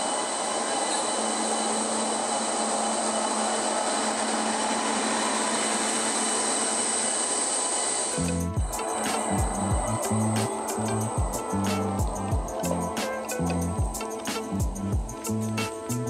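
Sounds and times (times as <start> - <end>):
electric locomotive passing: 0.0 - 16.0
high whine: 0.0 - 16.0.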